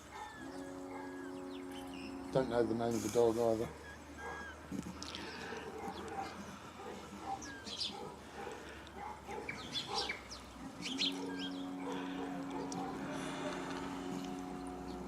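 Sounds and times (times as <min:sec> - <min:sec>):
small birds chirping: 0:00.0 - 0:02.7, 0:03.8 - 0:15.0.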